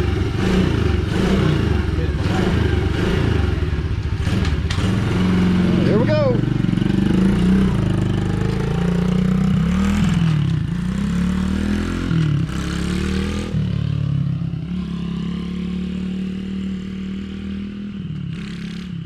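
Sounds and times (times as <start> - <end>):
small vehicle engine revving: 0.0 - 19.0.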